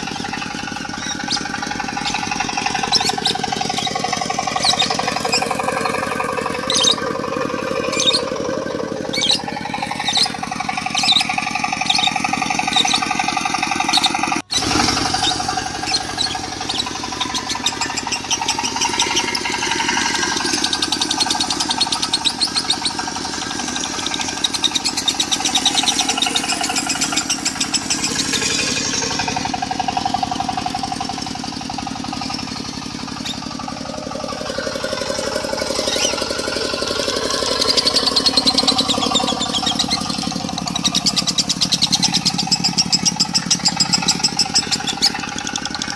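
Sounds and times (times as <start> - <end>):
birds chattering in high trills: 0.0 - 45.9
diesel engine running: 0.0 - 45.9.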